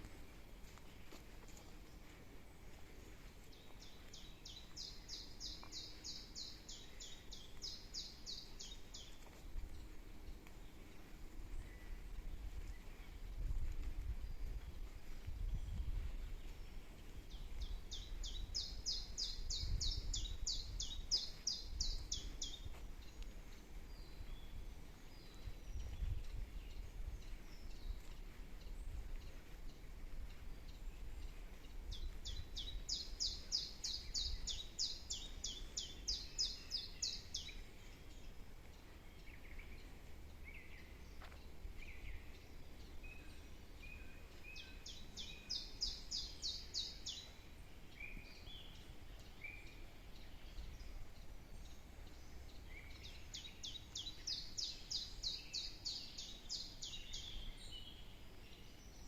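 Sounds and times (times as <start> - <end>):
low steady rumble: 0.0 - 54.5.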